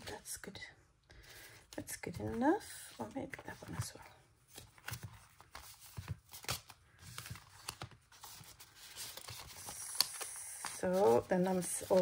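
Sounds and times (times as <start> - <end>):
papers and cards being shuffled: 1.4 - 12.0.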